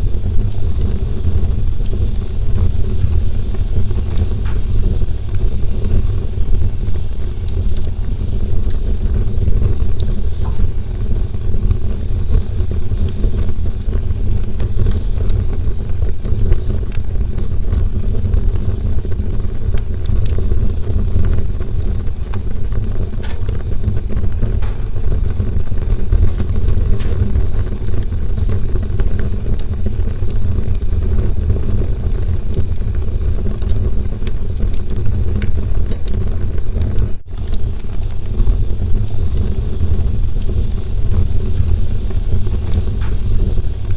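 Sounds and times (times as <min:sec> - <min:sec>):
campfire roaring: 0:00.0 - 0:43.9
fire crackles and pops: 0:00.0 - 0:43.9.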